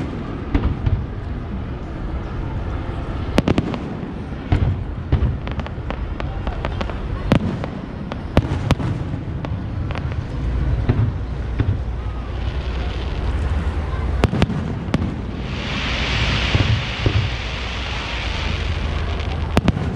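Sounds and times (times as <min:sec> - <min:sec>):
fireworks bangs and pops: 0:00.0 - 0:01.3, 0:03.4 - 0:19.9.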